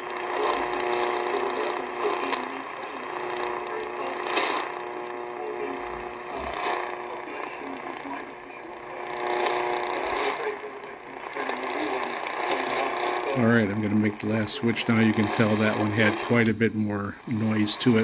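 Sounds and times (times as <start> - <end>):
radio announcer's voice: 0.0 - 18.0
radio static and hum: 0.0 - 18.0.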